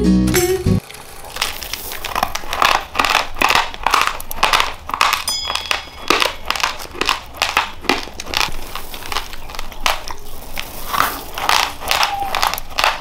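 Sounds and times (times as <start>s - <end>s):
chewing crunchy rice: 0.8s - 13.0s.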